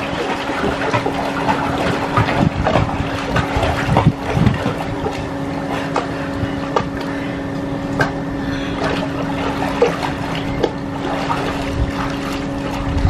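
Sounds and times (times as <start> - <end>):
steady low hum: 0.0 - 13.0
swimmer splashing water: 0.0 - 13.0.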